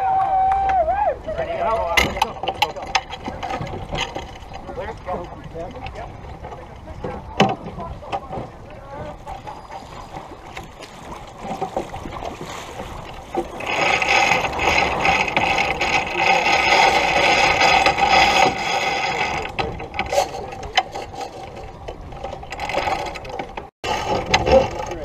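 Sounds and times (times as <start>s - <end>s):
winch ratcheting: 1.6s - 8.4s, 9.2s - 25.0s.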